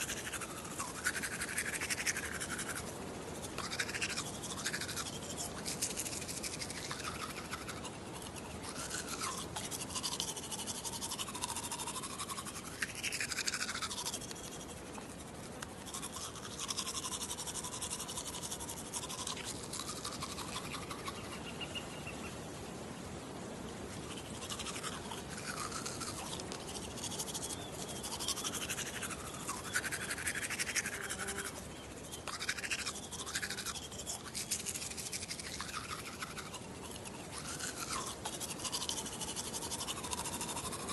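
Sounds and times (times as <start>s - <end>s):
toothbrush scrubbing teeth: 0.0s - 21.4s, 24.0s - 40.9s.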